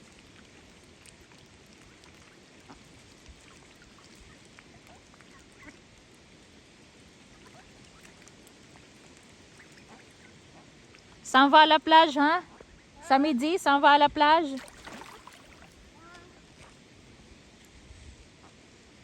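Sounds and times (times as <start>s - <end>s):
ducks splashing water: 0.0s - 12.0s, 14.4s - 17.7s
faint outdoor hiss: 0.0s - 19.0s.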